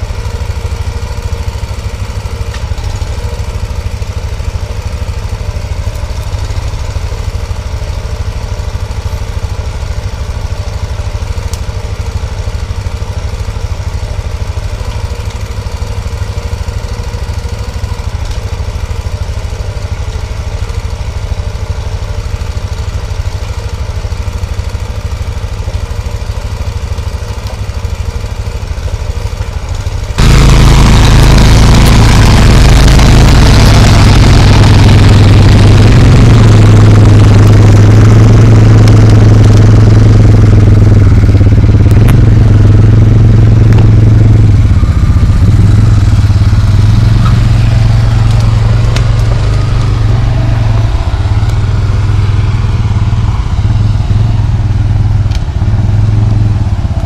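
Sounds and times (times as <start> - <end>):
loud engine running hard: 0.0 - 57.0
small engine running: 0.0 - 57.0.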